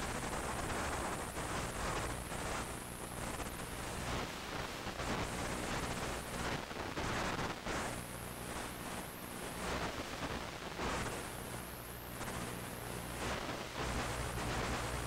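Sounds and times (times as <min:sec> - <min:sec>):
hiss and static: 0:00.0 - 0:15.0
steady low hum: 0:00.0 - 0:15.0.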